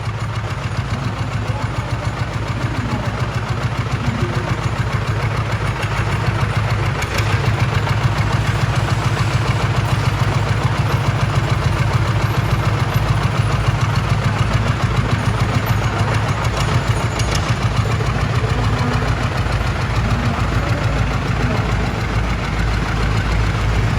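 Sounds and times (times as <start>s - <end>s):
tractor engine running: 0.0s - 23.9s.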